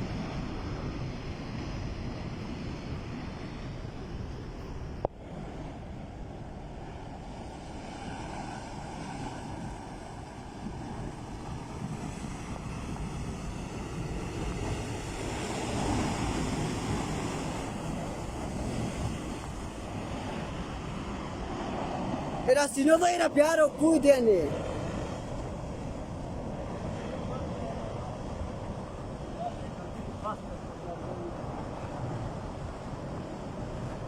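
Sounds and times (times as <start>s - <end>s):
floodwater rushing roar: 0.0s - 34.0s.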